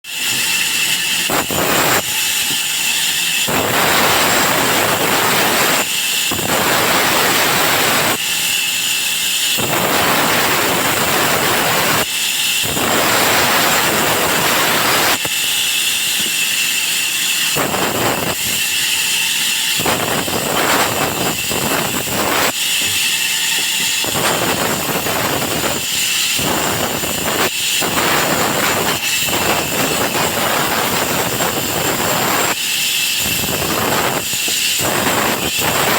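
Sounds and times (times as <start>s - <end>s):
saw cutting wood: 0.0s - 35.9s
saw high whine: 0.0s - 35.9s.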